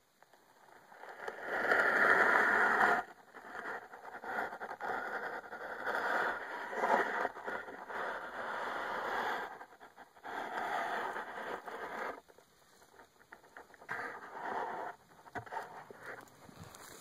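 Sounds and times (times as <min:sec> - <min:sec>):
phone scraping against soil: 0:00.8 - 0:17.0.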